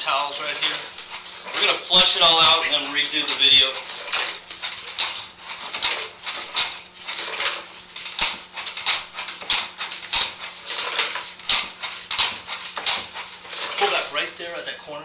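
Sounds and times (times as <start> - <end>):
cable clicking and scraping in drain: 0.0 - 14.8.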